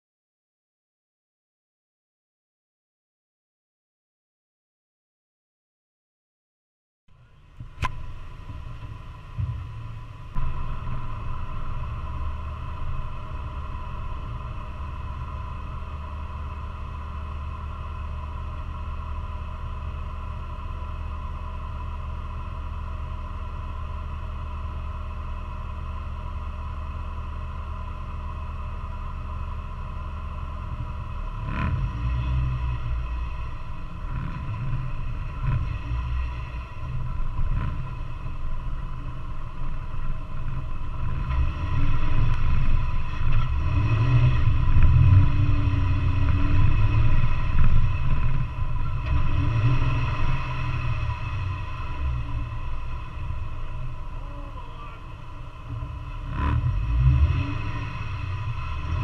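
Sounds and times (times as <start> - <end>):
vehicle engine idling and revving: 7.1 - 59.0.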